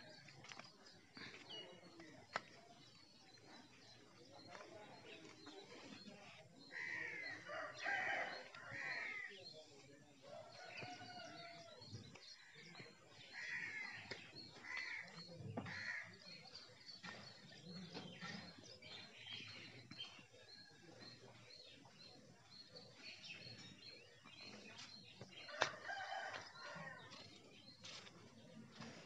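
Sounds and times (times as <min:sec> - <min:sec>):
birds calling: 0:00.0 - 0:29.0
faint background noise: 0:00.0 - 0:29.0.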